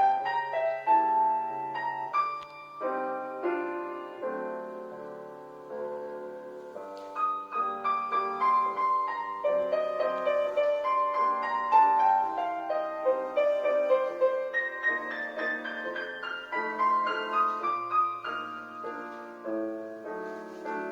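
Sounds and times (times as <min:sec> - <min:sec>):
solo piano melody: 0:00.0 - 0:20.9.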